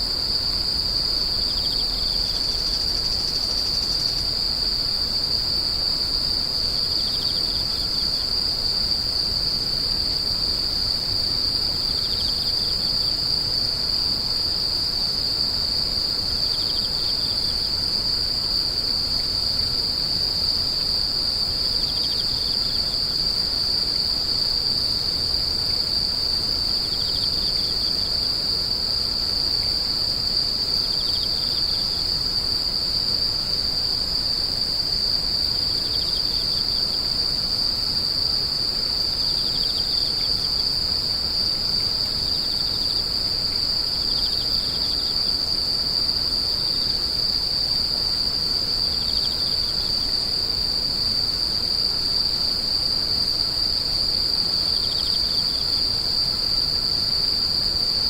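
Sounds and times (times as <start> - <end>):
faint short insect trill: 0.0 - 58.0
insects high-pitched drone: 0.0 - 58.0.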